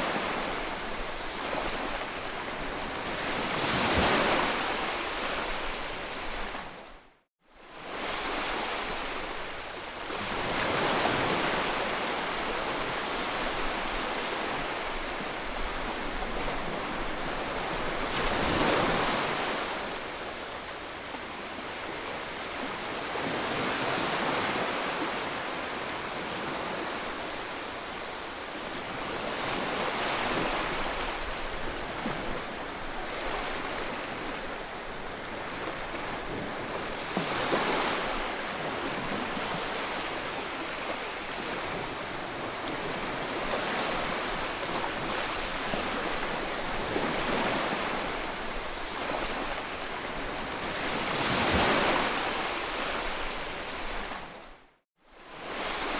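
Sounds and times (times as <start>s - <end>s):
sea waves breaking: 0.0s - 6.8s, 10.1s - 28.1s, 28.8s - 54.5s.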